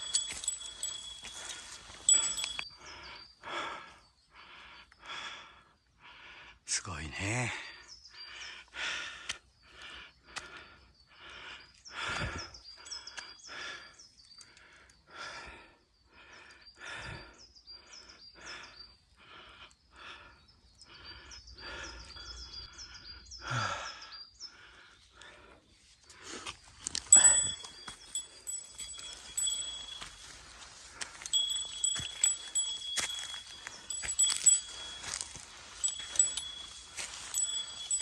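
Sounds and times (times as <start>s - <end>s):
hard rhythmic breathing: 0.0s - 6.7s, 7.4s - 38.0s
small birds chirping: 0.0s - 38.0s.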